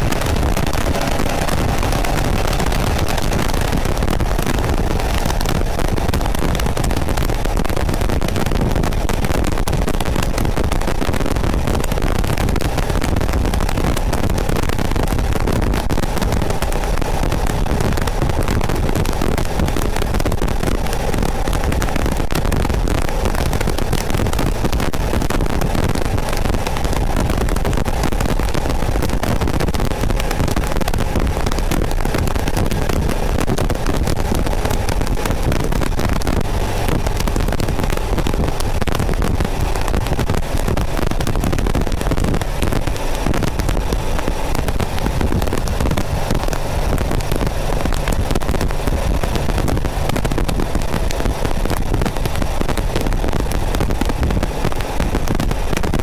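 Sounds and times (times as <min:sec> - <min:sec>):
car engine cruising: 0:00.0 - 0:56.0
wind and road noise: 0:00.0 - 0:56.0.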